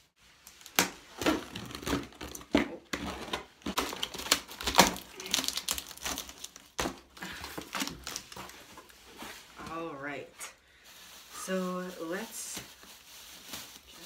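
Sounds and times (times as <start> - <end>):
plastic bag crinkling: 1.2 - 14.0.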